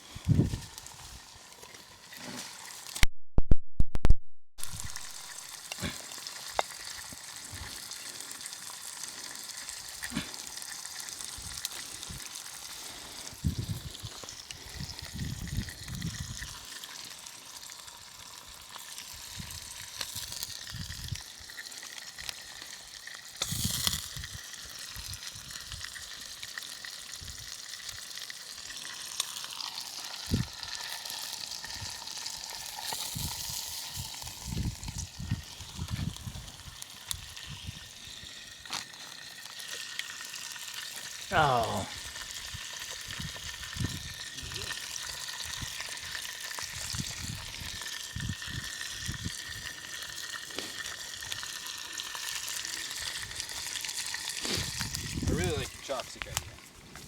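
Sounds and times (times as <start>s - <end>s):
oil sizzling in a pan: 0.0s - 3.0s, 4.6s - 56.7s.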